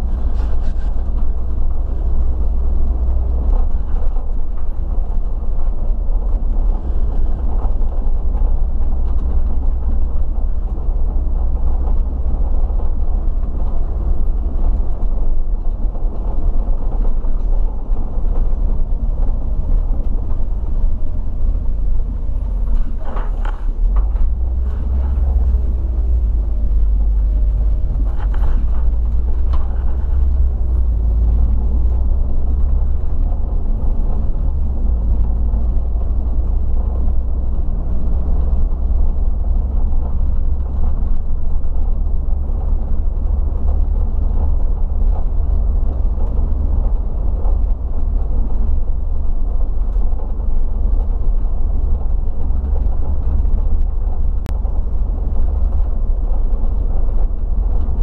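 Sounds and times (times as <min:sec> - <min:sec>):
bus engine rumbling: 0:00.0 - 0:58.0
road noise: 0:00.0 - 0:58.0.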